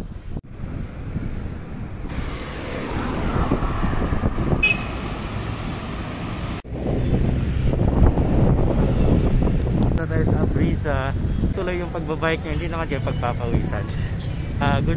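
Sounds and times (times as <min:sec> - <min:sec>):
wind rumble on microphone: 0:00.0 - 0:05.9, 0:06.6 - 0:14.9
cars passing: 0:00.5 - 0:14.9.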